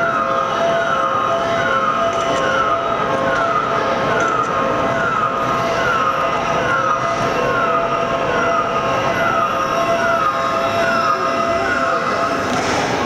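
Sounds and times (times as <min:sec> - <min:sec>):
steady held tones: 0:00.0 - 0:13.0.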